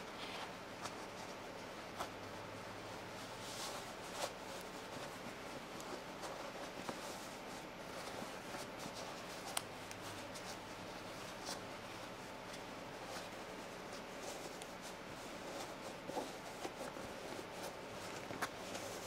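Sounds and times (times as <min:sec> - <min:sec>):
fabric rustling and scuffing: 0:00.0 - 0:19.0.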